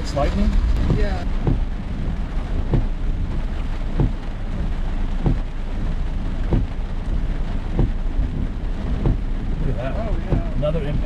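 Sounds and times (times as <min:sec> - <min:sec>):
rain on a car: 0:00.0 - 0:11.0
steady low rumble: 0:00.0 - 0:11.0
windshield wipers sweeping: 0:00.0 - 0:11.0.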